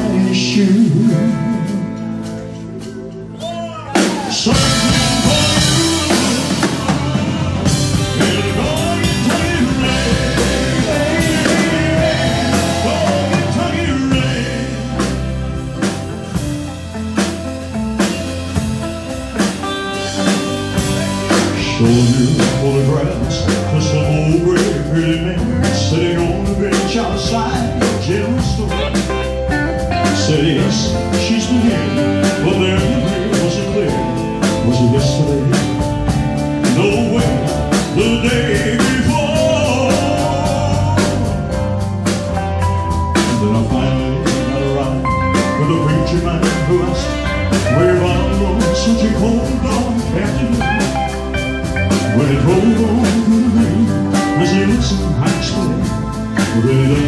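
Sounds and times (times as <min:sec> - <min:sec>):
man singing: 0:00.0 - 0:16.9, 0:17.5 - 0:57.0
drum kit beat: 0:00.0 - 0:57.0
live country-rock band: 0:00.0 - 0:57.0
saxophone: 0:00.9 - 0:24.1, 0:24.9 - 0:57.0.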